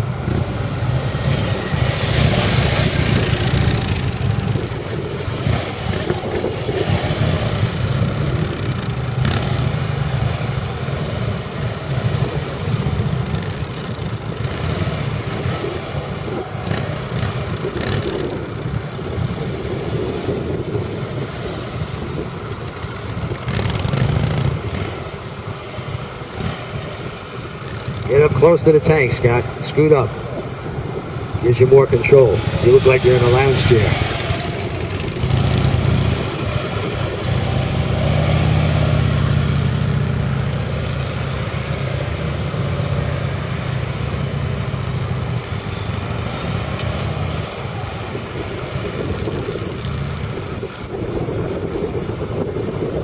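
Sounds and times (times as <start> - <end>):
motorcycle engine rumble: 0.0 - 53.0.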